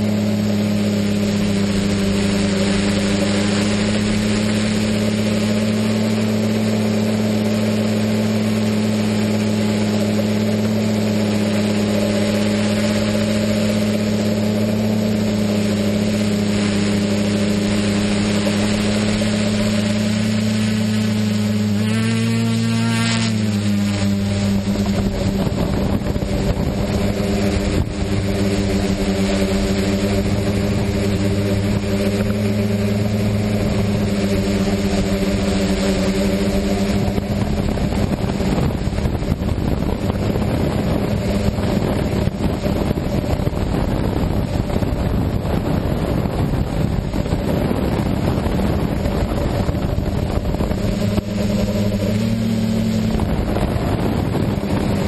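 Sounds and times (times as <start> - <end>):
drone motors humming: 0.0 - 55.0
wind noise on microphone: 0.0 - 55.0.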